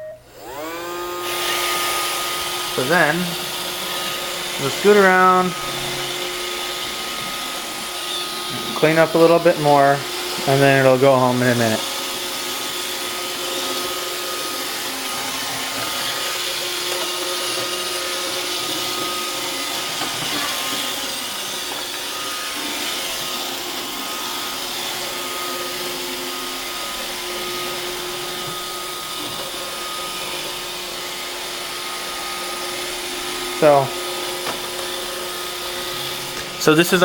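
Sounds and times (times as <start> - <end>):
robot vacuum whirring: 0.0 - 37.0.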